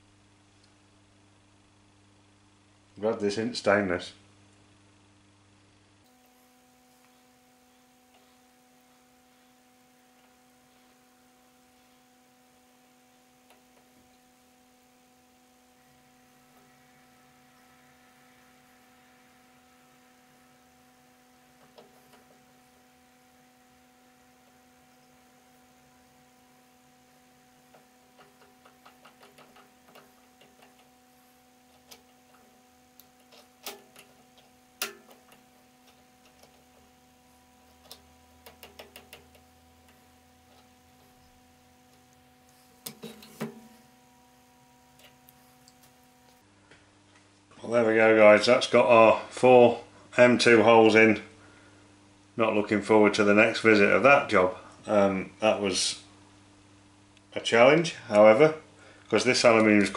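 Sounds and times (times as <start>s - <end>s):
faint electrical hum: 0.0s - 59.9s.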